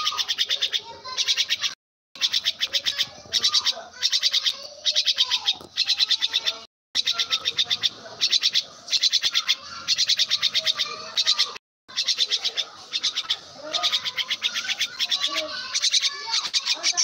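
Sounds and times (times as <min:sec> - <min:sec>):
bird calling rapid high notes: 0:00.0 - 0:17.0.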